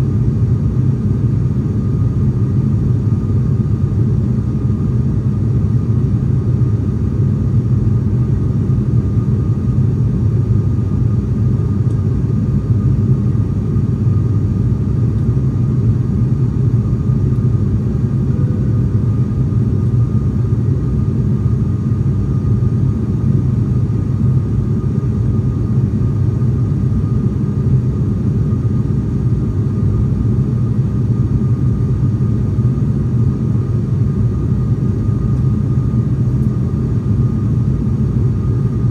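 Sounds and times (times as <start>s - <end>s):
propeller engine drone: 0.0s - 38.9s
thin constant whine: 0.0s - 38.9s.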